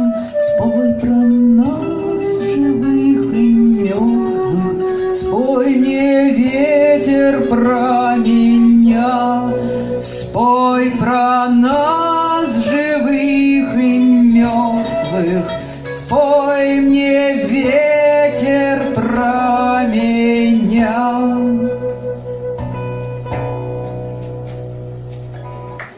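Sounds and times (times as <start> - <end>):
flute melody: 0.0 - 25.9
strummed acoustic guitars: 0.0 - 25.9
percussion: 1.0 - 5.6, 6.3 - 21.9, 22.6 - 25.9.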